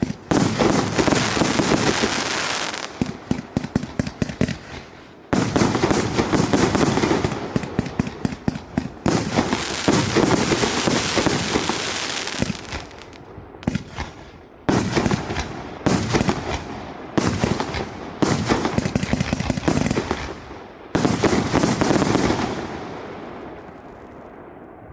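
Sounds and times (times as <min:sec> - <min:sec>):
fireworks firing volleys of shots: 0:00.0 - 0:24.6.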